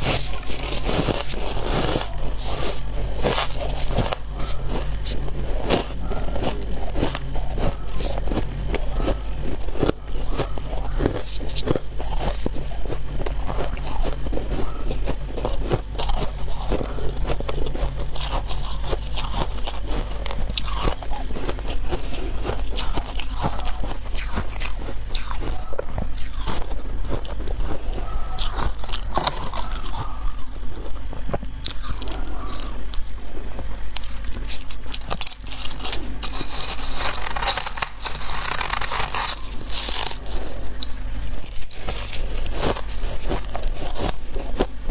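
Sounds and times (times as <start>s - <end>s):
chewing crunchy frost: 0.0s - 44.9s
steady low hum: 0.0s - 44.9s.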